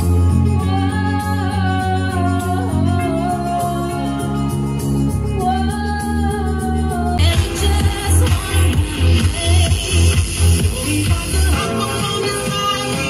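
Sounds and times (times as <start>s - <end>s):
backing track with pulsing beat: 0.0s - 13.0s
person singing: 0.0s - 13.0s.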